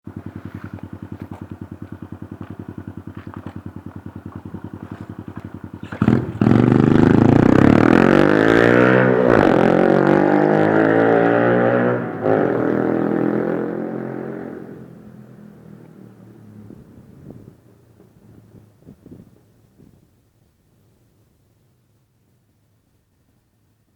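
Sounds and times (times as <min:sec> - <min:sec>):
motorbike engine idling and revving: 0:00.0 - 0:19.8.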